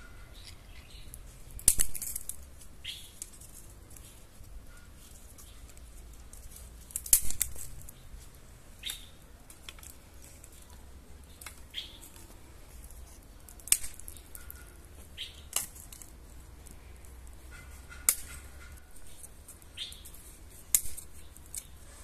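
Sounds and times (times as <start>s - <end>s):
twigs snapping in wood fire: 0.3s - 21.9s.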